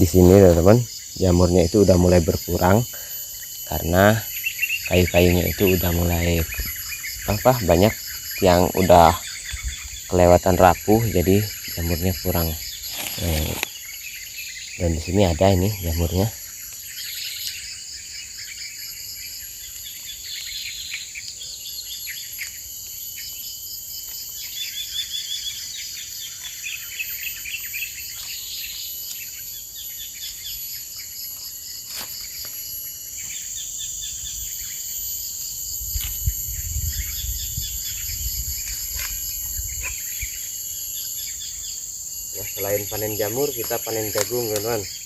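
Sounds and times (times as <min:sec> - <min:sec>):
birds chirping trills: 0:00.0 - 0:45.0
insects buzzing: 0:00.0 - 0:45.0.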